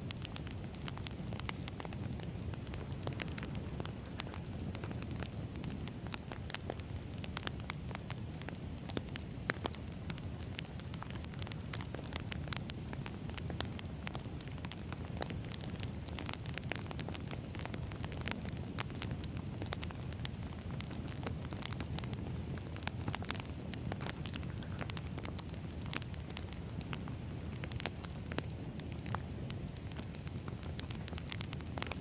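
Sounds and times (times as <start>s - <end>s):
crackles and pops of burning logs: 0.0s - 32.0s
low rumble of flames: 0.0s - 32.0s.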